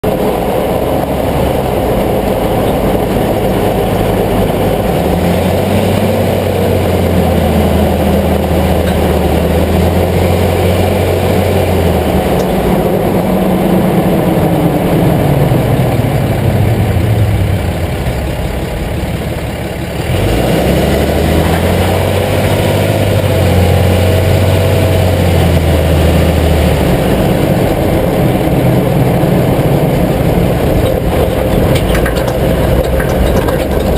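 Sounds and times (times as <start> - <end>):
vehicle engine under load: 0.0 - 33.9.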